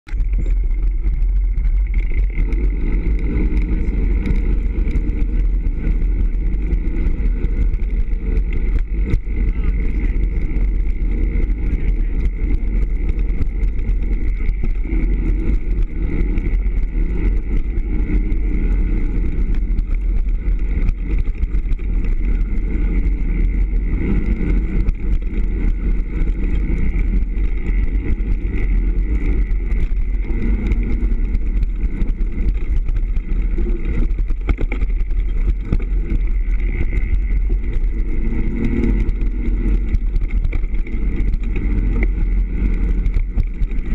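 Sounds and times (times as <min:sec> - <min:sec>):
wind on microphone: 0:00.0 - 0:43.9
bike rattling over dirt trail: 0:00.1 - 0:43.9.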